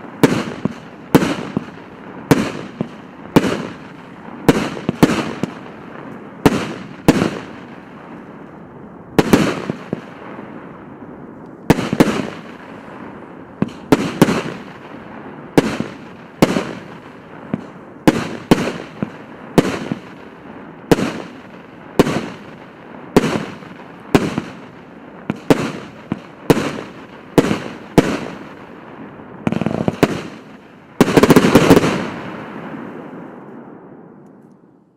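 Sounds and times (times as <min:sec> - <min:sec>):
firework bangs: 0:00.0 - 0:34.2.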